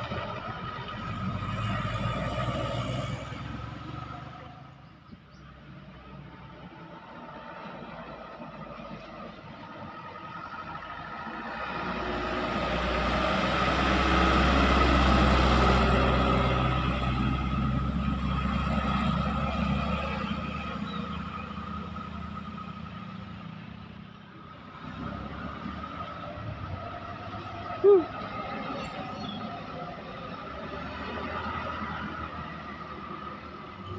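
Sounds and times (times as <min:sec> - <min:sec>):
truck engine driving past: 0:00.0 - 0:33.9.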